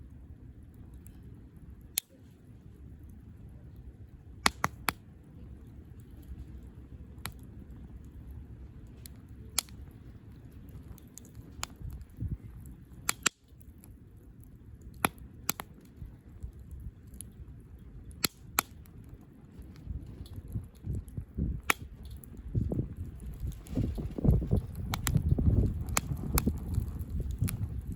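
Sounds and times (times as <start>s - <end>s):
campfire crackling: 0.0s - 27.9s.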